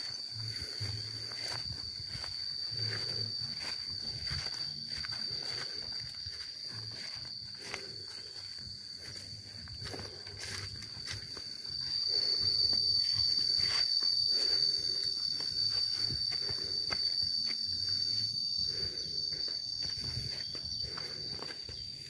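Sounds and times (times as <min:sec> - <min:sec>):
footsteps on a path: 0:00.0 - 0:22.0
high-pitched insect drone: 0:00.0 - 0:22.0.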